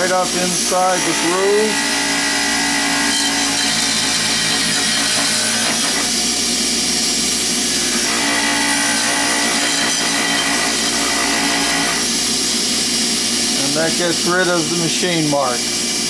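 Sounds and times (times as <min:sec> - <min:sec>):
bench grinder polishing metal: 0:00.0 - 0:06.5, 0:07.4 - 0:12.8, 0:13.5 - 0:16.0.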